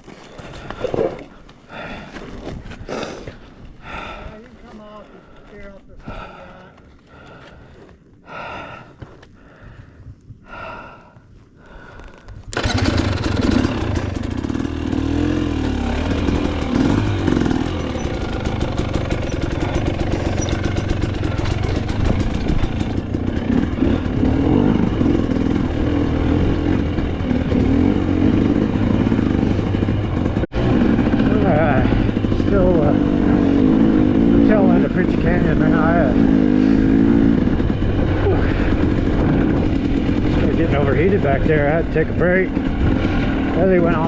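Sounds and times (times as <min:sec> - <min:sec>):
dirt bike engine running: 0:03.8 - 0:07.4, 0:08.2 - 0:44.0.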